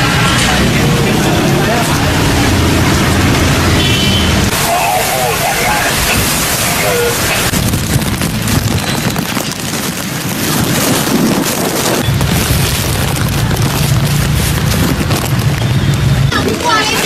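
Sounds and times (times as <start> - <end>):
heavy rain: 0.0 - 17.0
wind buffeting microphone: 0.6 - 17.0.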